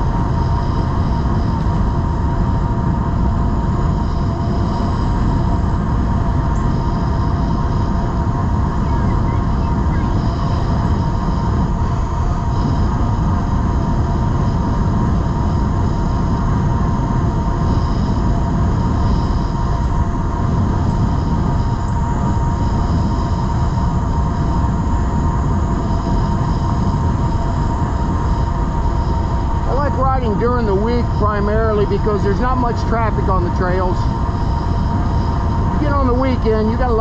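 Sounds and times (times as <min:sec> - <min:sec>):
e-bike motor whine: 0:00.0 - 0:37.0
wind rumbling on microphone: 0:00.0 - 0:37.0.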